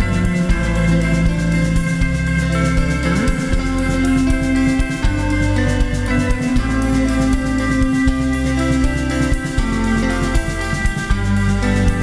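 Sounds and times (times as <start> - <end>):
drum hits: 0.0 - 12.0
electric guitar held notes: 0.0 - 12.0
sustained bass line: 0.0 - 12.0.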